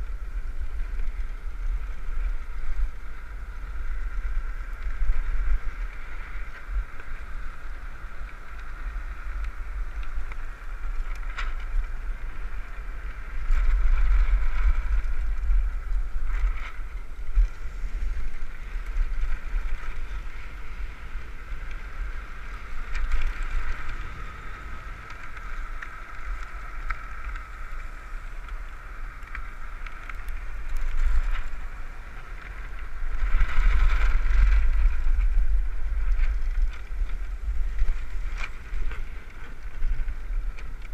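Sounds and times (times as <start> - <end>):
steady rushing hiss: 0.0 - 40.9
wind buffeting microphone: 0.0 - 40.9.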